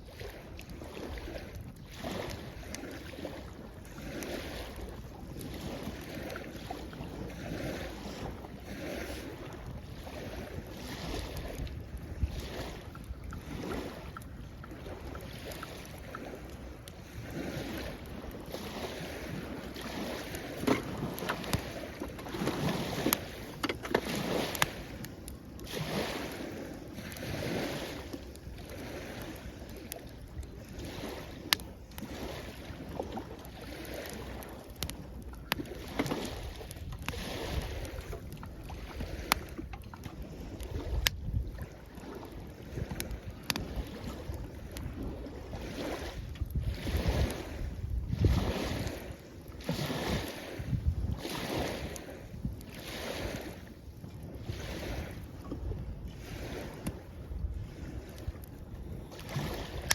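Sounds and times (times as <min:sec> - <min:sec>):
small waves washing onto shore: 0:00.0 - 0:59.9
campfire pops and crackles: 0:00.1 - 0:53.6, 0:56.7 - 0:57.1, 0:58.0 - 0:59.9.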